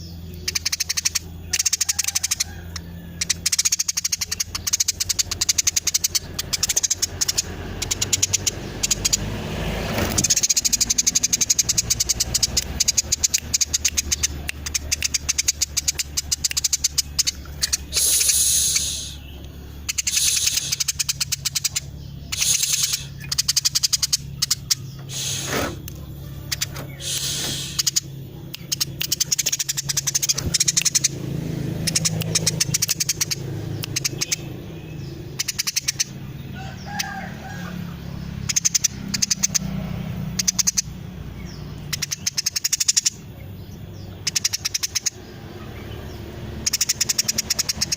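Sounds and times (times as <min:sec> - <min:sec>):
sparrow chirping: 0:00.0 - 0:47.9.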